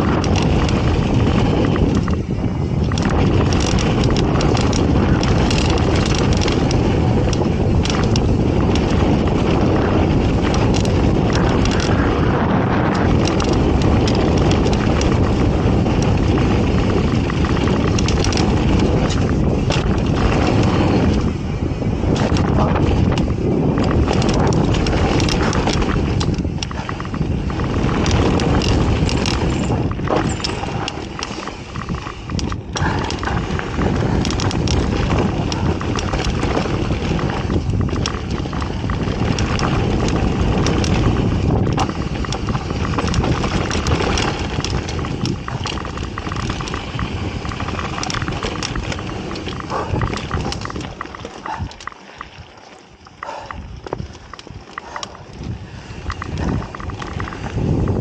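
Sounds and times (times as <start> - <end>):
bike rattling and clacking: 0.0 - 58.0
tyres rolling on dirt: 0.0 - 58.0
wind rushing over microphone: 0.0 - 58.0.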